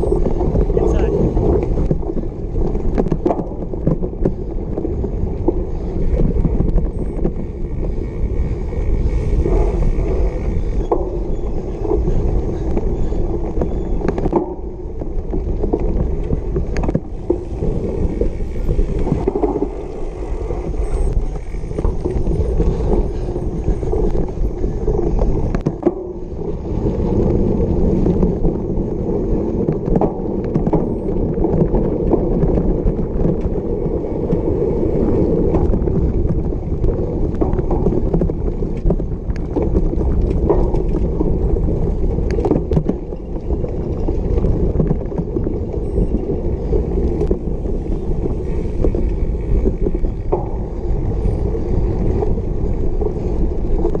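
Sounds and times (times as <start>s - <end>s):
bike rattling: 0.0s - 54.0s
tyres rumbling on rough ground: 0.0s - 54.0s.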